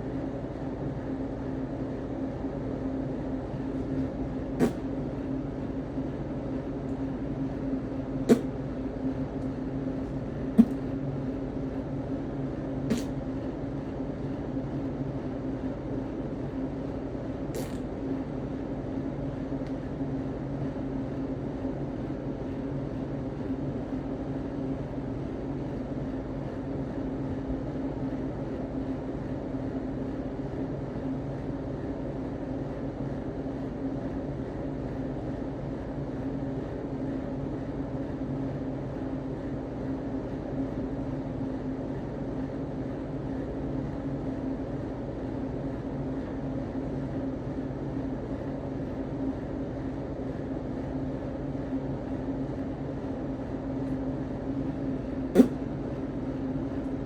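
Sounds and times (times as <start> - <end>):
mechanical drone with low hum: 0.0 - 57.0.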